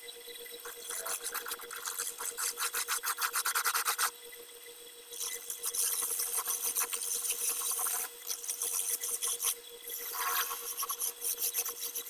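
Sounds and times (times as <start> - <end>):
tool rasping on spinning wood: 0.7 - 4.1, 5.2 - 12.0.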